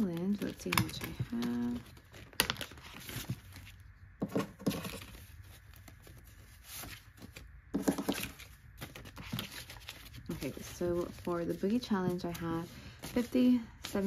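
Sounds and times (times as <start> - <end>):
paper banknotes rustling: 0.0 - 14.0.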